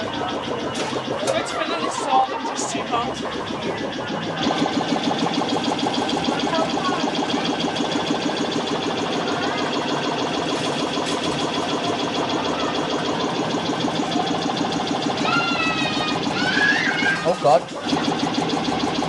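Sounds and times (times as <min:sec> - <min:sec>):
faint arcade machine tones: 0:00.0 - 0:19.0.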